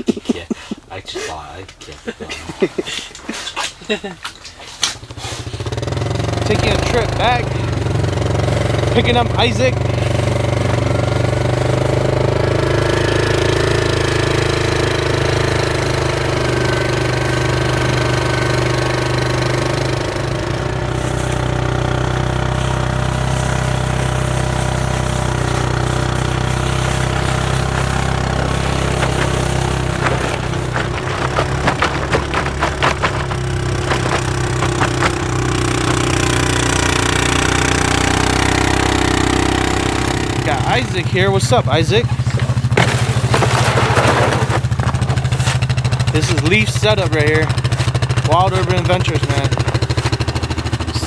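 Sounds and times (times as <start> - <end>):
atv engine running: 0.2 - 51.0
sled clattering over bumps: 5.0 - 51.0.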